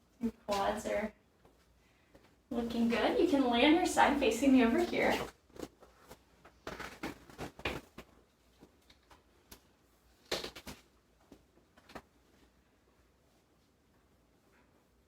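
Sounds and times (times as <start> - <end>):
rustling on treatment table: 0.4 - 15.0.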